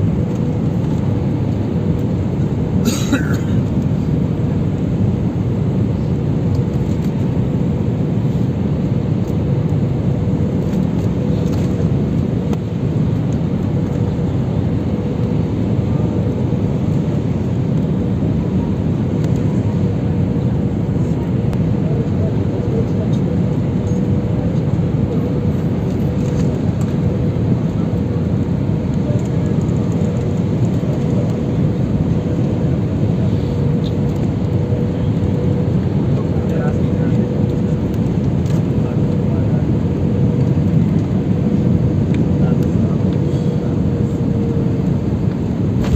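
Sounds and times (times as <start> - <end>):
engine and airflow rumble: 0.0 - 45.9.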